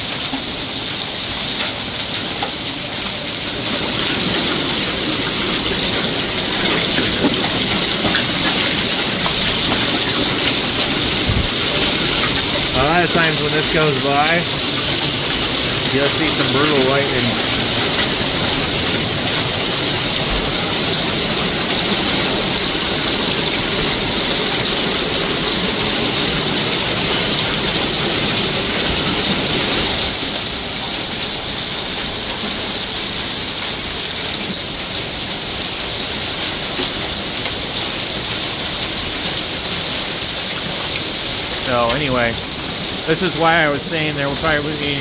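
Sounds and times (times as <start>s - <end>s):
heavy rain downpour: 0.0s - 45.0s.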